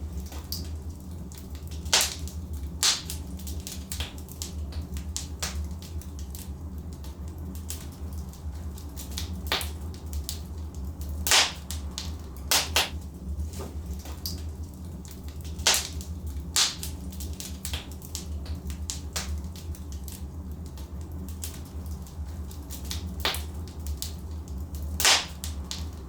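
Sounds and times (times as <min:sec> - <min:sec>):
logs crackling in fireplace: 0:00.0 - 0:26.0.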